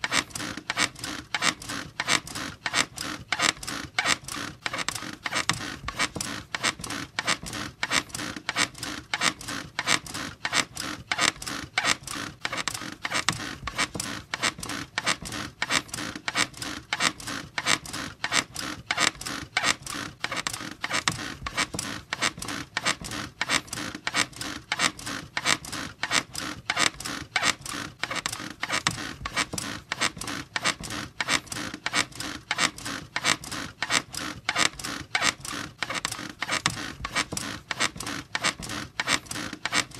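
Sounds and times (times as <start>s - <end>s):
bed springs squeaking: 0.0s - 39.9s.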